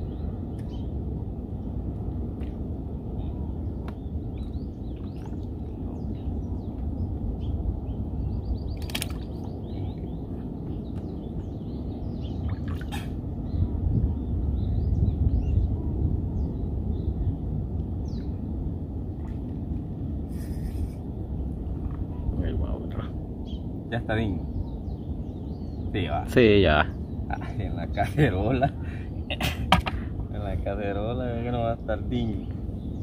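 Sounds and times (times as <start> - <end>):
small birds chirping: 0.0 - 1.0, 2.4 - 18.5, 20.4 - 33.0.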